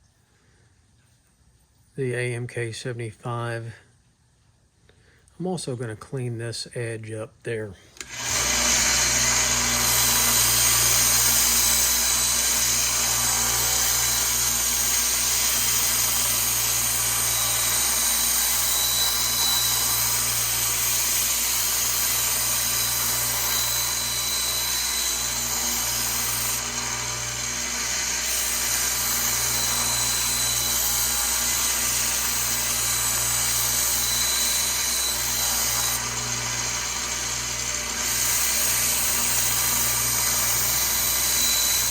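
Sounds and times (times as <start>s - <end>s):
blade grinding hiss: 8.0s - 41.9s
sharpening machine motor hum: 8.0s - 41.9s.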